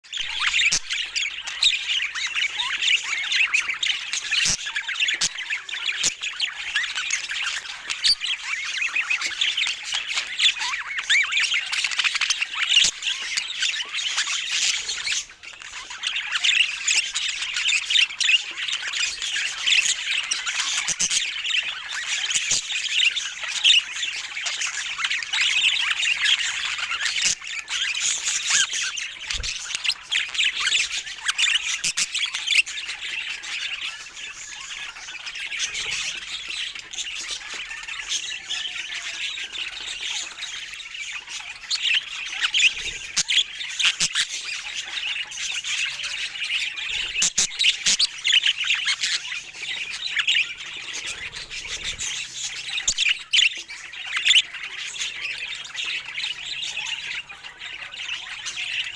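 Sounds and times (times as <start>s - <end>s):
budgerigars chattering: 0.1s - 58.9s.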